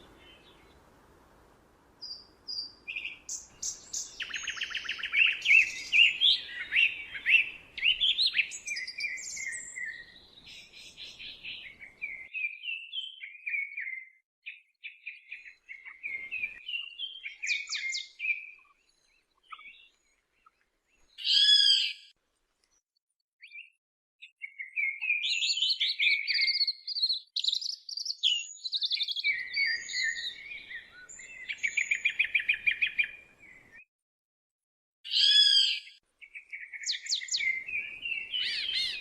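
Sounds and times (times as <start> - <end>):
songbirds chirping and trilling: 2.0 - 22.8, 23.4 - 33.8, 35.1 - 39.0.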